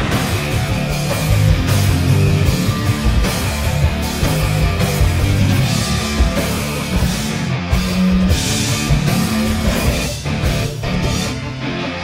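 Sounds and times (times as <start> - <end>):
steady drum beat: 0.0 - 11.9
distorted electric guitar: 0.0 - 12.0.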